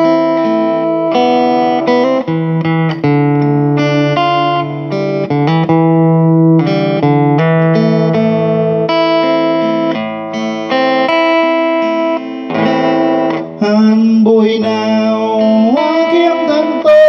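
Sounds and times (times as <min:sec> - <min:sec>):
amplified acoustic guitar: 0:00.0 - 0:17.0.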